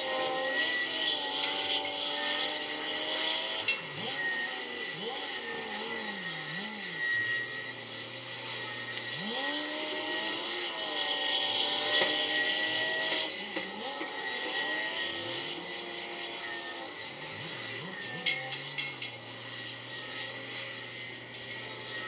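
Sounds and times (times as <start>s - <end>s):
steady high whine: 0.0s - 22.0s.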